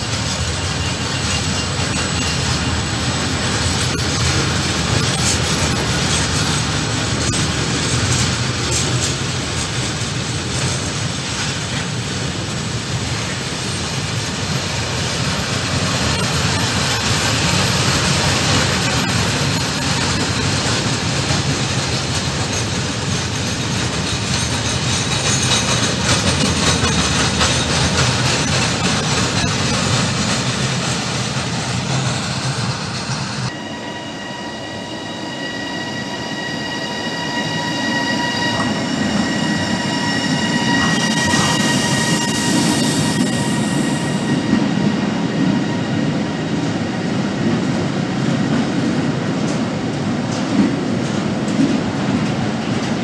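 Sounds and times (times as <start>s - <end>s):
electric locomotive whine: 0.0s - 53.0s
freight train rumble and wheel clatter: 0.0s - 53.0s.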